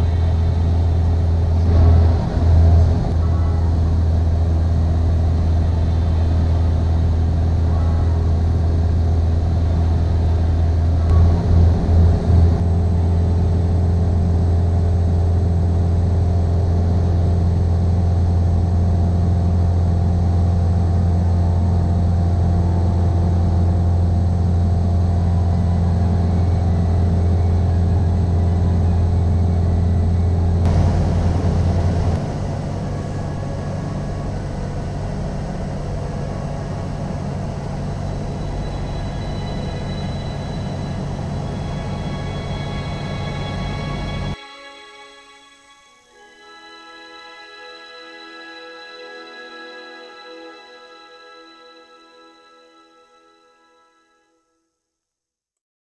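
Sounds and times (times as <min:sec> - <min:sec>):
airplane engine and propeller drone: 0:00.0 - 0:53.2.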